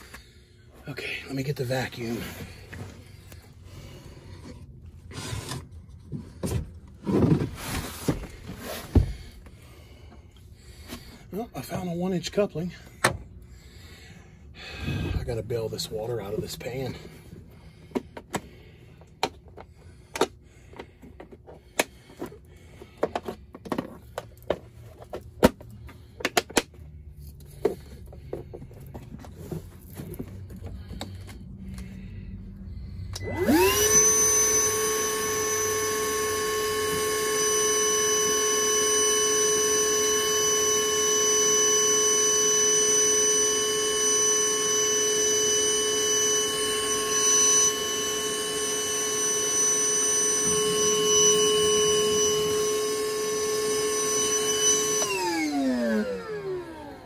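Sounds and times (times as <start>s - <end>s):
shop vac motor whining: 0.0s - 57.0s.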